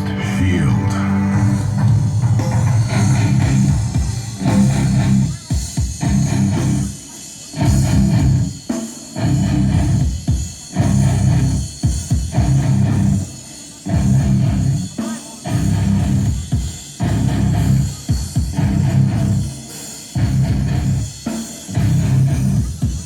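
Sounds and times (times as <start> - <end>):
rock music with heavy bass: 0.0 - 23.0.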